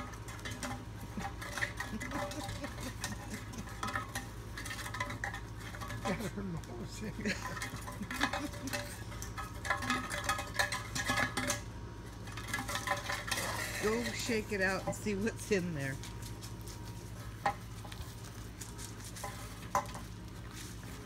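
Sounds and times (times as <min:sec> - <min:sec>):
metal pipe clattering and scraping: 0:00.0 - 0:21.0.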